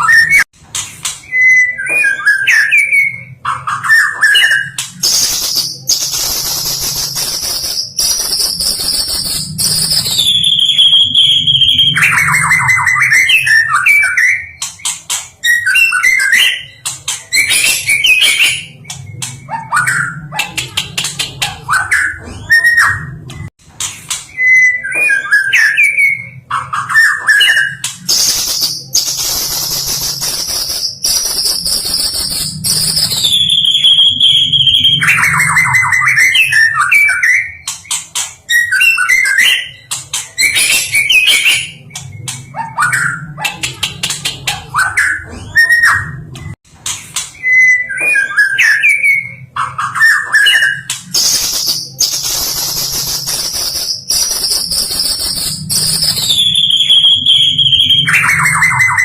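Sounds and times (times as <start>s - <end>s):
songbird singing whistles and trills: 1.2s - 20.4s, 24.3s - 43.4s, 47.4s - 59.0s.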